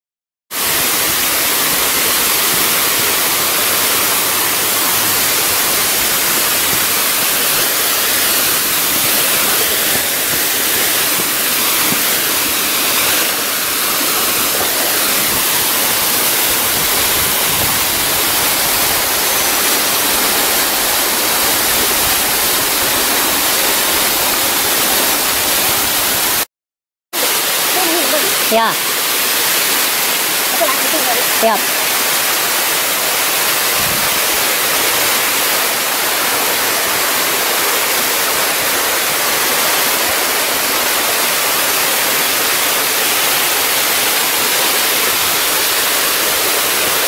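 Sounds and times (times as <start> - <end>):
waterfall rushing: 0.5 - 26.5, 27.2 - 47.0.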